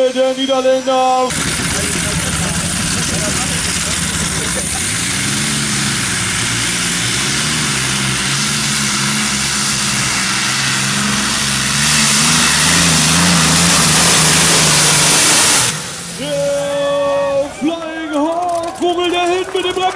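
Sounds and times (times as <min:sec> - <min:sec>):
loud rushing noise: 0:00.0 - 0:18.1
tractor engines running unevenly: 0:00.0 - 0:19.9.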